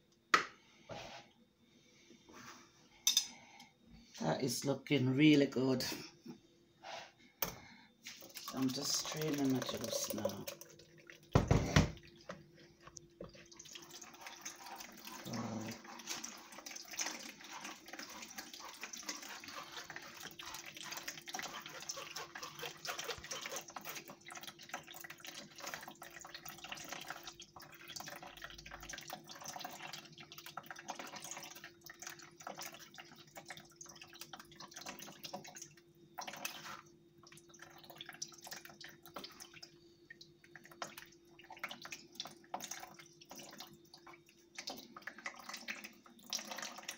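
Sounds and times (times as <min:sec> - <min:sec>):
faint steady hum: 0:00.0 - 0:46.9
juice dripping through a sieve: 0:07.9 - 0:46.9.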